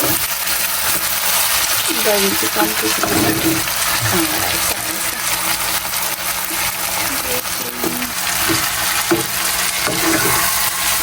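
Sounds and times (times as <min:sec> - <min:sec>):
spoon scraping a pan: 0:00.0 - 0:11.0
vegetables sizzling in a frying pan: 0:00.0 - 0:11.0.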